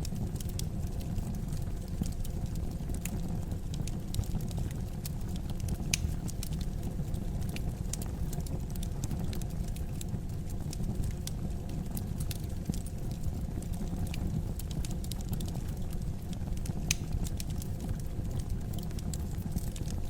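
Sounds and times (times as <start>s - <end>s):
wood fire crackling in fireplace: 0.0s - 20.0s.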